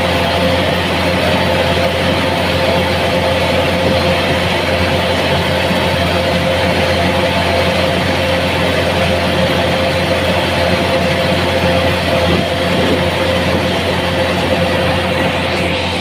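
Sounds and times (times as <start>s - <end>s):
engine running with whine: 0.0s - 16.0s.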